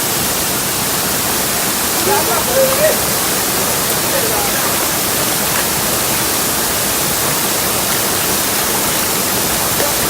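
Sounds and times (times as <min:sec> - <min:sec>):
waterfall pouring into pool: 0:00.0 - 0:10.0.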